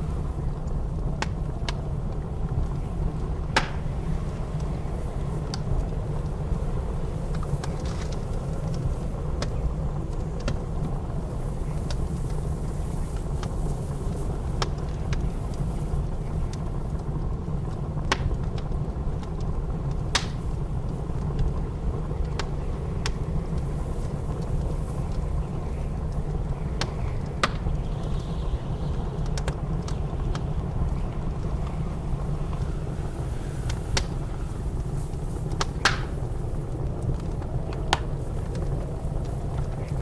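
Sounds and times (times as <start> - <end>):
low rumble of blizzard wind: 0.0 - 40.0
wood fire crackling and popping: 0.0 - 40.0.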